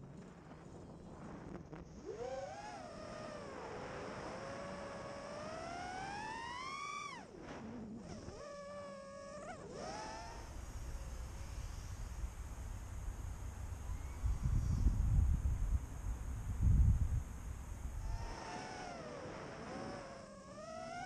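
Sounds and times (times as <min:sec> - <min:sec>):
drone motors whining: 0:01.9 - 0:21.0.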